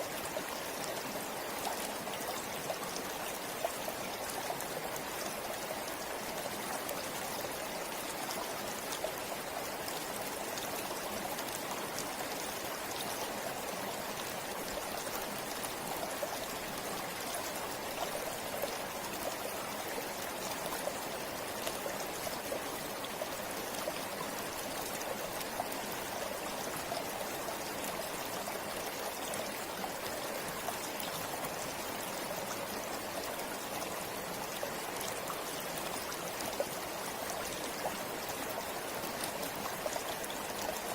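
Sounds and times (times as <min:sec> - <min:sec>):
river water trickling over stones: 0:00.0 - 0:40.9.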